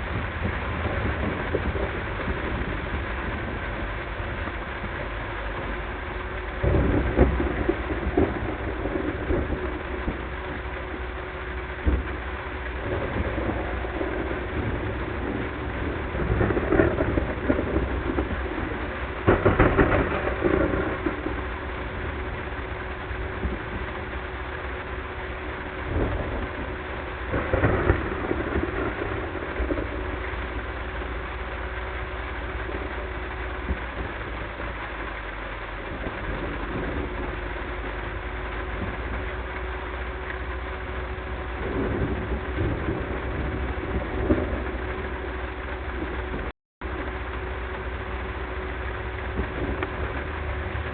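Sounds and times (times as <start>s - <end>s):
thunder: 0.0s - 35.1s, 35.8s - 47.2s, 47.8s - 50.9s
car engine and road noise: 0.0s - 50.9s
heavy rain: 0.0s - 50.9s.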